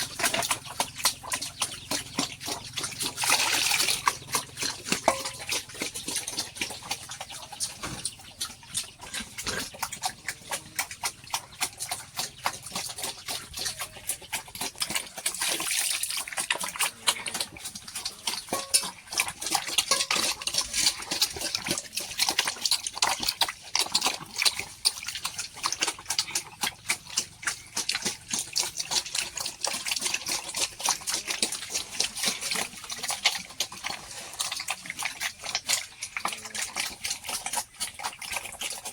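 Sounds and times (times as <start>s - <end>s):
pigs chewing feed: 0.0s - 38.9s.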